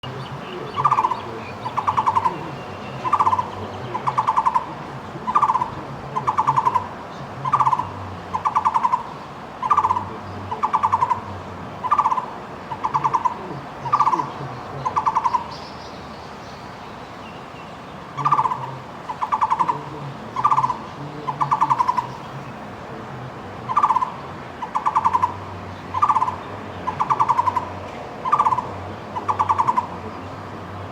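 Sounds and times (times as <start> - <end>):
barbet calling: 0.0 - 22.8, 23.6 - 30.9.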